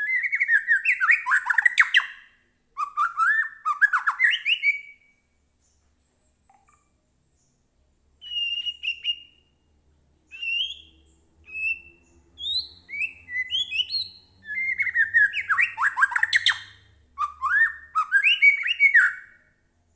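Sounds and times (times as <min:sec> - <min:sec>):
songbird whistling: 0:00.0 - 0:05.2, 0:08.2 - 0:09.7, 0:10.3 - 0:19.6.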